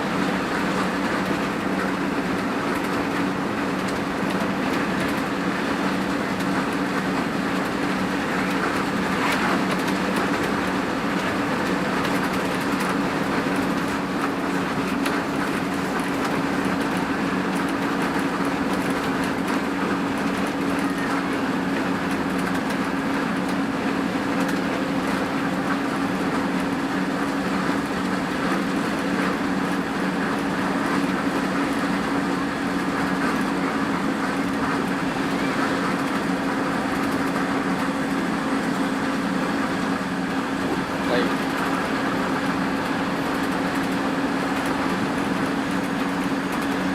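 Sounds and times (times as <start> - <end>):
diesel bus engine droning: 0.0 - 46.9
road and tyre noise: 0.0 - 46.9.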